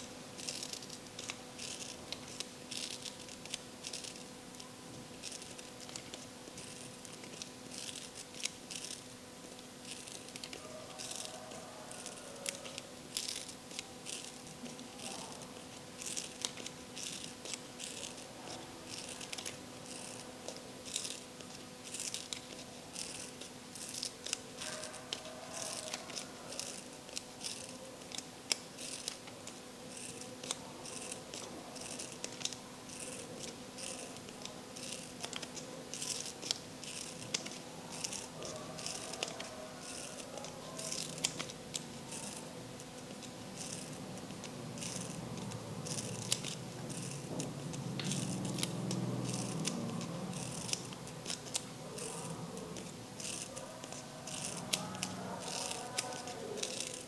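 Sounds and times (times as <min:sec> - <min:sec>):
faint steady hum: 0:00.0 - 0:57.0
scissors snipping paper: 0:00.4 - 0:57.0.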